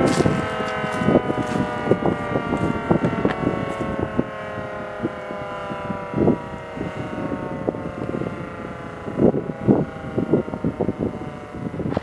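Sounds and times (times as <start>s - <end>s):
tornado siren: 0.0s - 12.0s
wind buffeting microphone: 0.0s - 12.0s.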